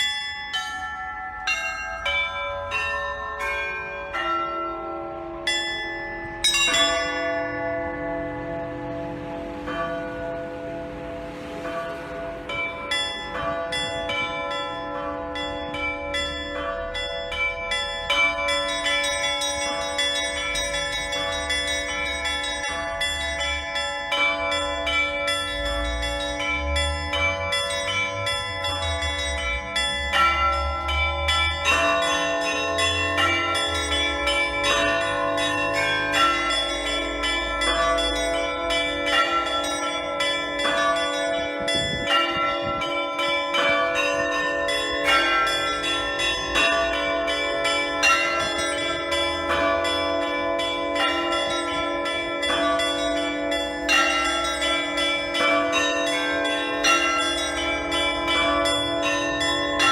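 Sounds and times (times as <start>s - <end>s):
small high bells ringing: 0.0s - 8.4s, 12.5s - 59.9s
deep church bells: 0.0s - 59.9s.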